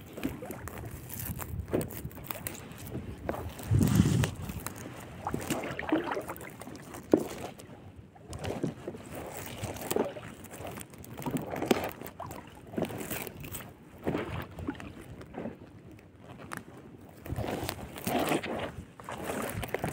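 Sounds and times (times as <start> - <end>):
net rustling and handling: 0.0 - 7.7, 8.3 - 14.4, 16.3 - 19.9.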